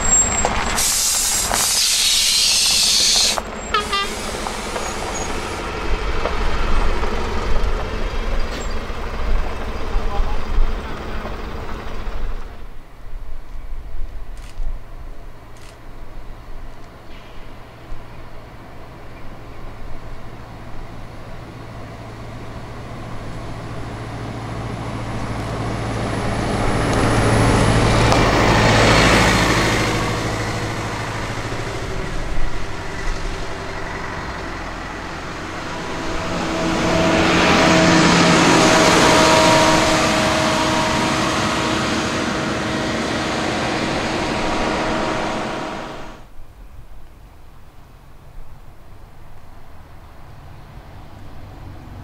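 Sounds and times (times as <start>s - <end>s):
buses driving past: 0.0s - 52.0s.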